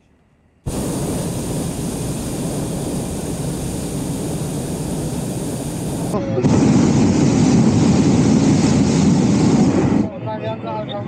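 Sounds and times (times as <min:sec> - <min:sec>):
propane burner roaring: 0:00.6 - 0:10.2.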